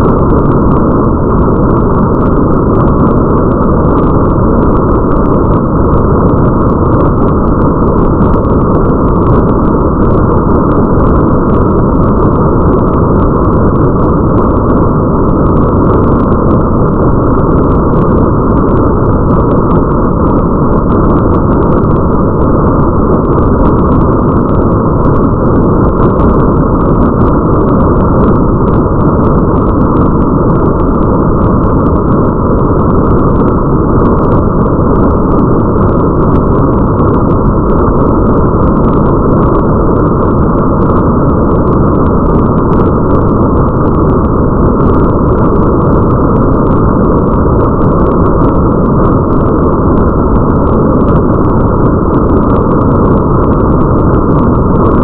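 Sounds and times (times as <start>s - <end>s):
muffled rain: 0.0s - 55.0s.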